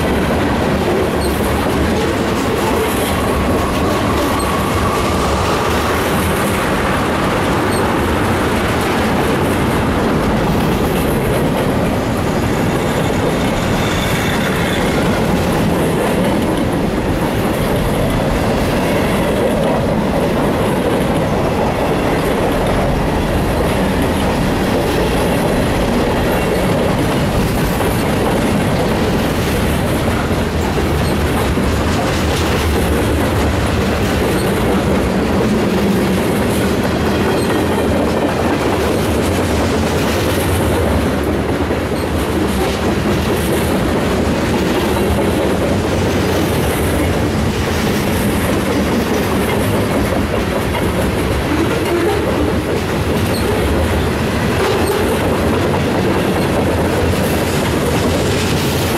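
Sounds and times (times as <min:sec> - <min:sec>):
freight train rumbling past: 0:00.0 - 0:58.9
steel wheels clattering on rails: 0:00.0 - 0:58.9.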